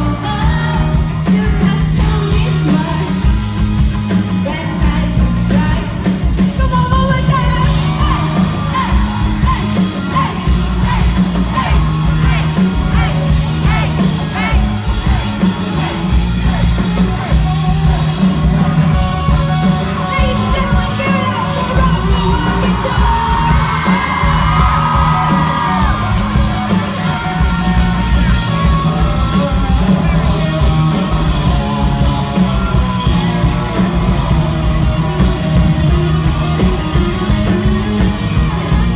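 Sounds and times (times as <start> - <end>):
live rock band playing: 0.0 - 38.9
people yelling: 6.6 - 38.9.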